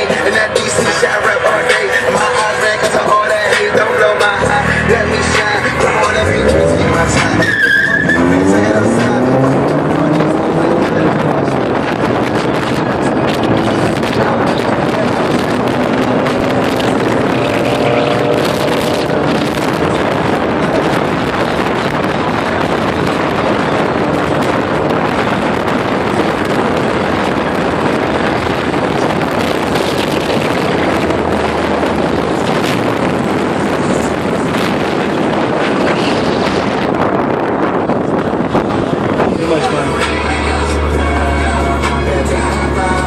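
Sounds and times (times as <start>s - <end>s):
wind and road noise: 0.0s - 43.0s
wind buffeting microphone: 0.0s - 43.0s.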